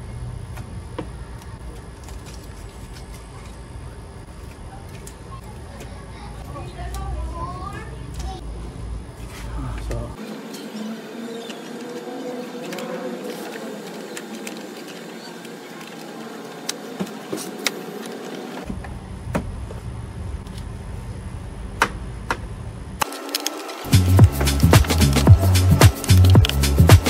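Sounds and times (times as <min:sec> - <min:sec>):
steady background noise: 0:00.0 - 0:27.0.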